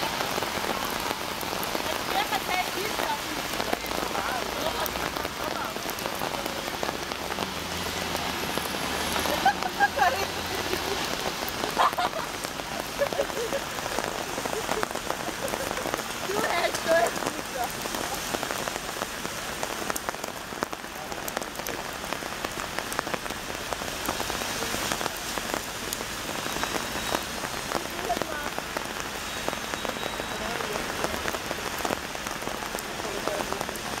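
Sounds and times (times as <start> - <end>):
heavy rain hissing: 0.0 - 34.0
rain drop ticks: 0.0 - 34.0.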